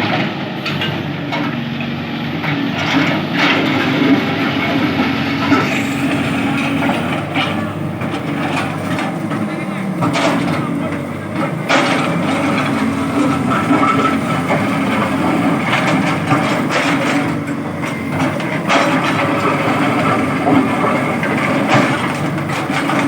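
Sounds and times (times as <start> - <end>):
diesel machinery running: 0.0 - 23.0
clacks and scrapes: 2.4 - 23.0.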